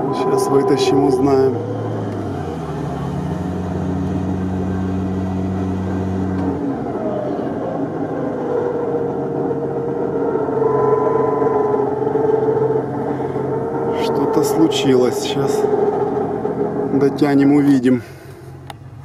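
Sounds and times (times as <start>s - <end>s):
high steady whine: 0.0s - 3.1s, 4.1s - 17.6s
vehicle engine low hum: 0.0s - 19.0s.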